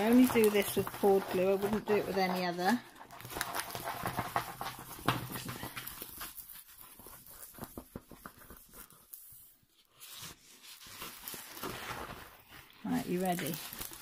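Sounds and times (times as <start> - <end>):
canvas and paper crinkling: 0.0 - 14.0.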